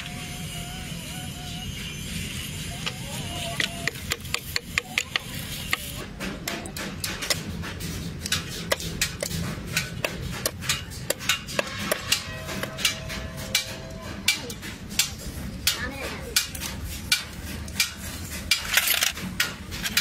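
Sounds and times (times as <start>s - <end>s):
tools tapping on engine parts: 3.6s - 20.0s.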